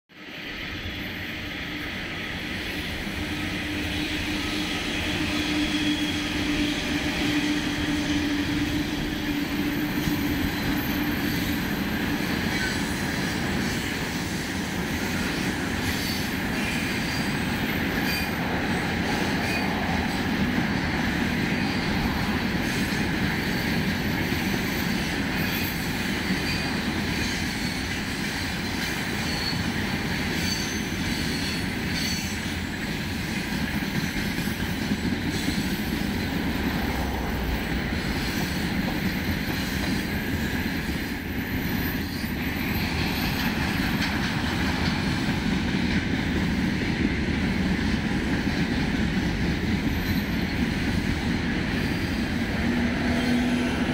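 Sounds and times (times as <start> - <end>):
train wheels rumbling on rail: 0.1 - 53.9
electric locomotive humming: 0.2 - 53.9.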